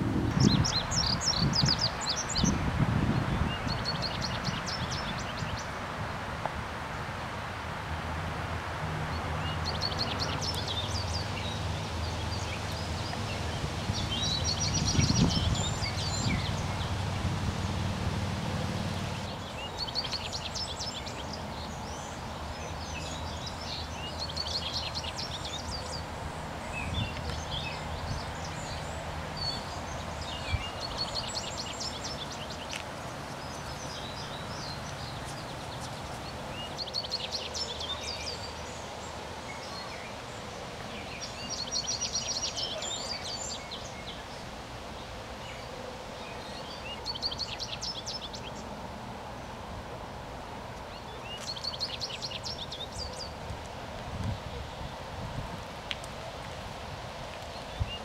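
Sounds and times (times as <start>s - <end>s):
songbird singing: 0.0s - 5.8s, 9.1s - 49.9s, 50.7s - 55.2s, 57.4s - 58.0s
outdoor background hiss: 0.0s - 58.0s.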